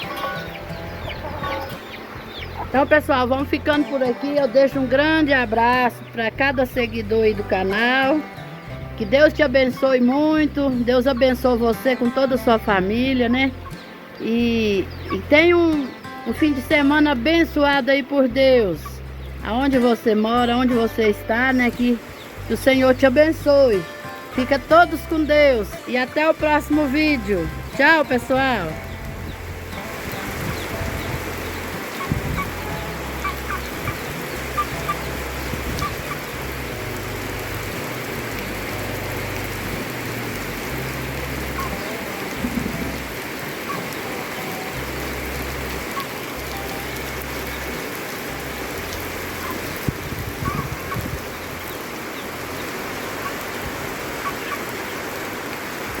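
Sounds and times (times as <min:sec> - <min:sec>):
chickens clucking: 0:00.0 - 0:55.8
steady rain falling: 0:00.0 - 0:56.0.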